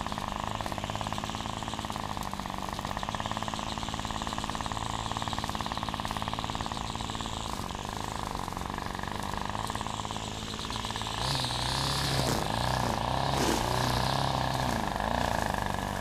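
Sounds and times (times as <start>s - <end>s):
lawnmower engine running: 0.0s - 16.0s.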